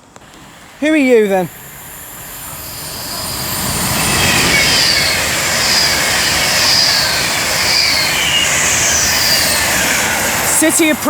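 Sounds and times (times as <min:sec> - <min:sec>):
high falling squeal: 0:00.0 - 0:11.0
train passing with loud rush: 0:00.0 - 0:11.0.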